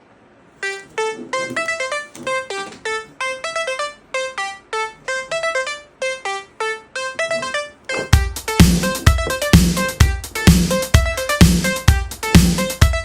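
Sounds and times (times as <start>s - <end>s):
electric piano melody: 0.6s - 13.0s.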